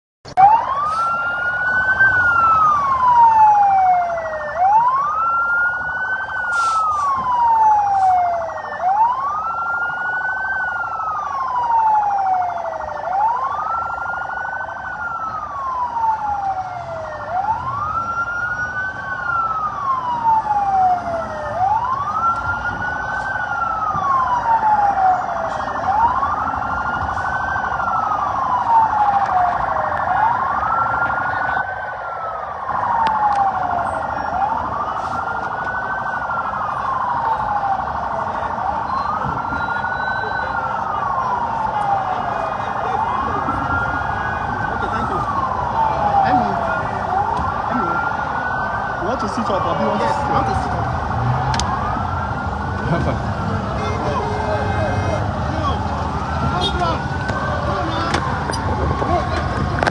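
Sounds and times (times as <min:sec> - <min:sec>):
police siren wailing: 0:00.3 - 0:59.9.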